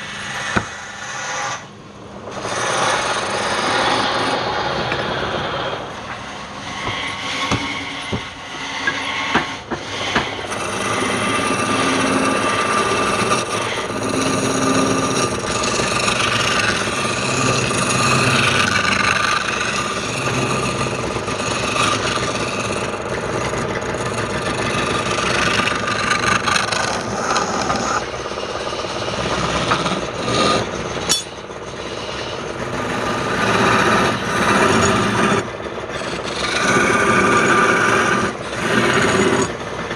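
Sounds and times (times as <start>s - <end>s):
wood lathe tool scraping wood: 0.0s - 1.6s, 2.3s - 39.9s.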